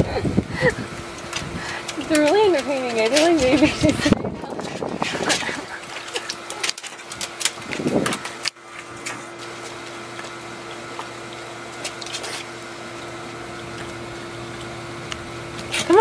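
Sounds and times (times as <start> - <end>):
mechanical motor hum: 0.0 - 16.0
dog splashing in paddling pool: 0.7 - 16.0.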